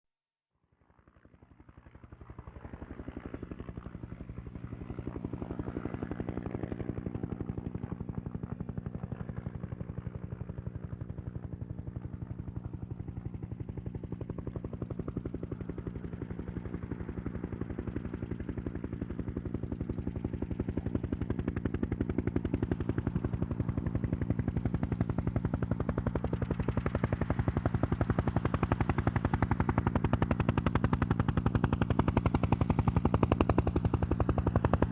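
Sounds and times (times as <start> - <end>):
helicopter rotor chop: 2.2 - 34.9.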